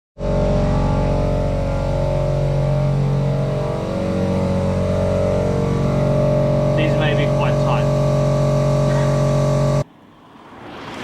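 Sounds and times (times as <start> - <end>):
machine humming loudly: 0.2 - 9.9.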